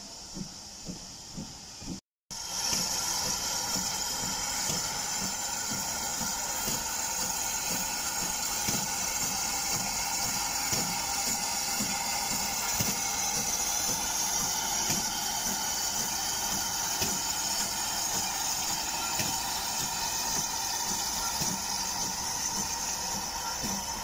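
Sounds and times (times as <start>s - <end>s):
hiss of steam: 0.0s - 24.0s
steam locomotive exhaust beats: 0.0s - 24.0s.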